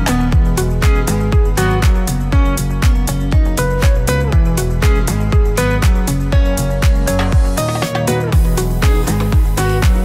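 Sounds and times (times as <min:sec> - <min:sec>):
background music with plucked melody: 0:00.0 - 0:10.0.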